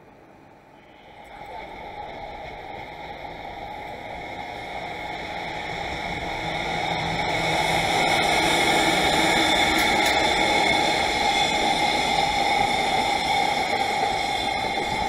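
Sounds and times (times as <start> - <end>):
freight train wheels rumbling on rail: 1.0 - 15.0.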